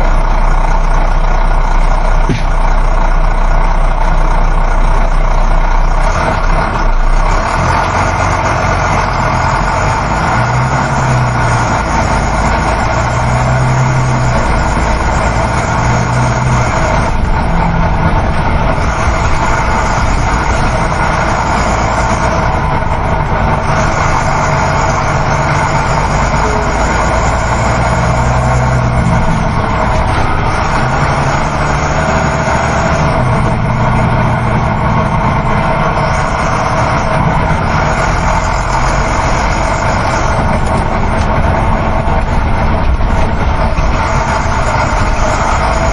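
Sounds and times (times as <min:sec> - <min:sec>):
bus engine hum: 0:00.0 - 0:45.9
road and tyre noise: 0:00.0 - 0:45.9.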